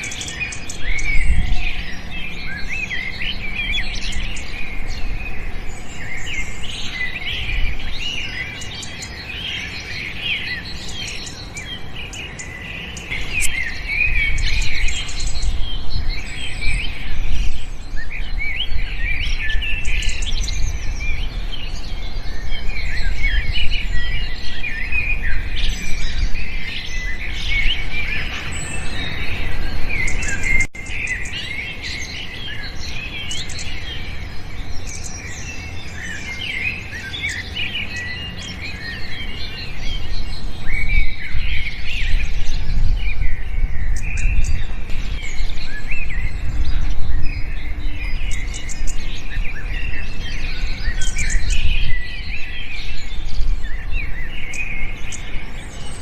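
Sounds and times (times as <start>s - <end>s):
small birds chirping and twittering: 0.0s - 56.0s
steady low rumble: 10.6s - 56.0s.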